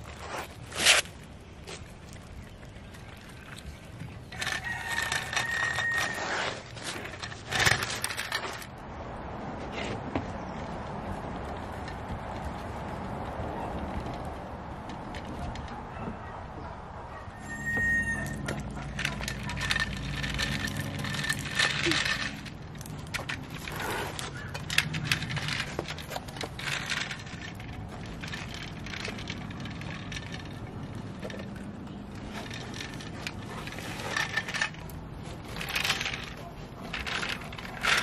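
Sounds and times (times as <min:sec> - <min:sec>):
toy truck rolling on concrete: 0:00.0 - 0:16.0, 0:17.4 - 0:38.0.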